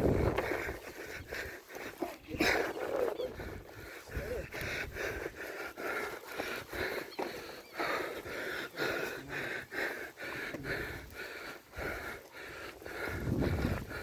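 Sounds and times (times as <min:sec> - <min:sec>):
person breathing hard and fast: 0:00.0 - 0:14.0.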